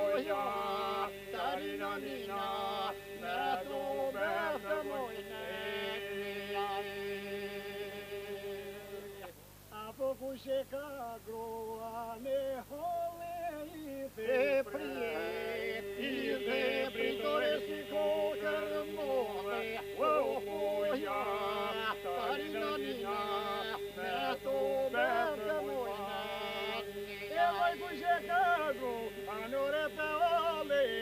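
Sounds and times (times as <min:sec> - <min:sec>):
men singing a drone: 0:00.0 - 0:31.0.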